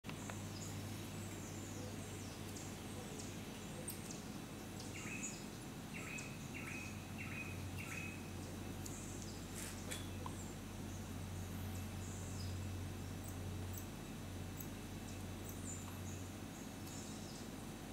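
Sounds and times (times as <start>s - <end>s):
steady low hum: 0.1s - 17.9s.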